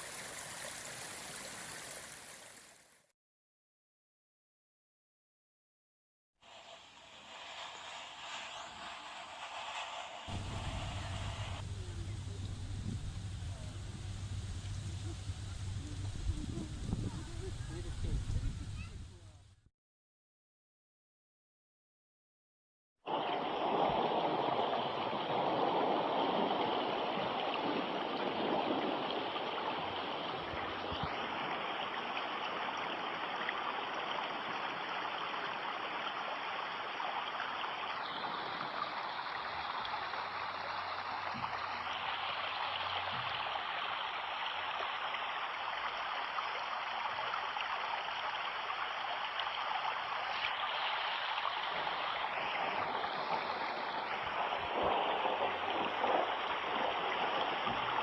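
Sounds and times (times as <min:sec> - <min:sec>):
stream water running: 0:00.0 - 0:03.0, 0:06.4 - 0:19.4, 0:23.1 - 0:58.0.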